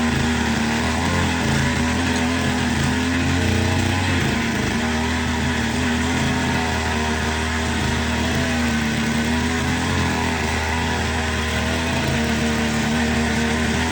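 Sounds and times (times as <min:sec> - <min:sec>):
small tractor engine running: 0:00.0 - 0:13.9.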